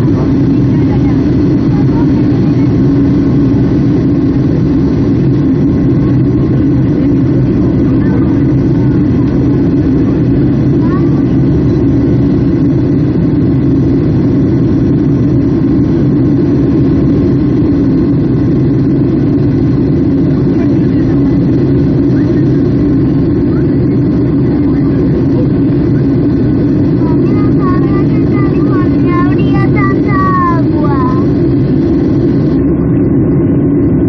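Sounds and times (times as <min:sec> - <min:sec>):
jet engine roar in cabin: 0:00.0 - 0:34.0.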